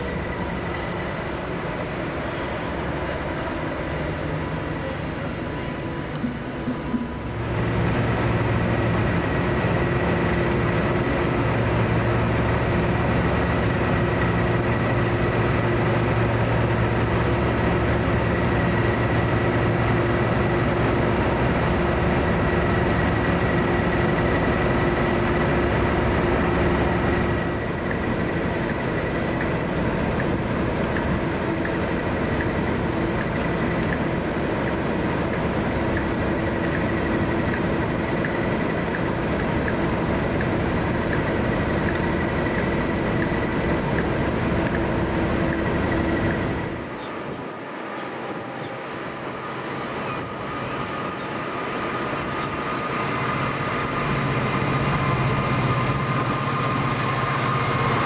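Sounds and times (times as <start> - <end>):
locomotive engine hum: 0.0 - 58.0.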